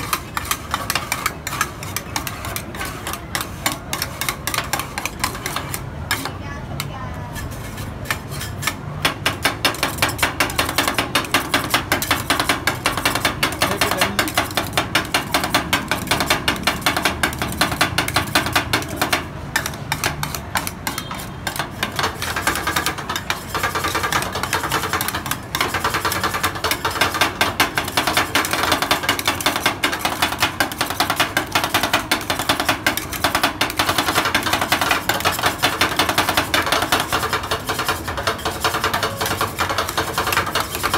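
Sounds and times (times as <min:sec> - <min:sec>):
metal spatulas clacking on plate: 0:00.0 - 0:40.9.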